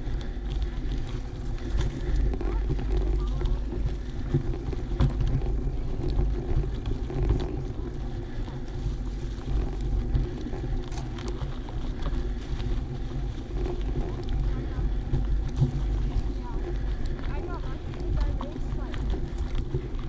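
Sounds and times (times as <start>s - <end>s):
bike tyres rolling on dirt: 0.0s - 20.0s
small clicks and rattles: 0.0s - 20.0s
wind rumbling on microphone: 0.0s - 20.0s.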